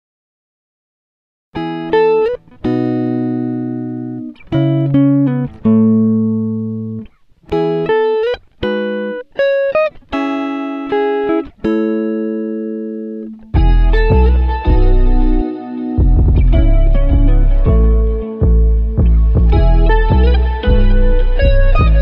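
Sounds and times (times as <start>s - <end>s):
slow guitar melody: 1.6s - 22.0s.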